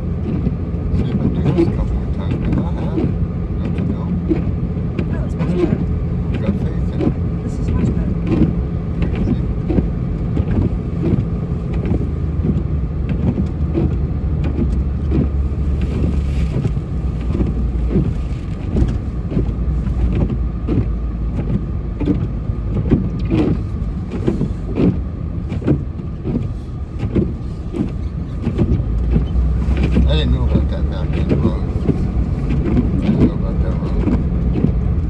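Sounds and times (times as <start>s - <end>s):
short knocks and clunks: 0.0s - 35.0s
truck engine rumble: 0.0s - 35.0s.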